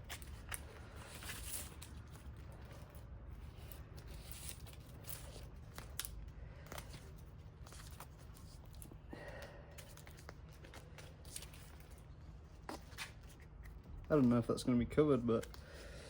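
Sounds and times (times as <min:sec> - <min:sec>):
bar tape crinkling and rustling: 0:00.0 - 0:16.0.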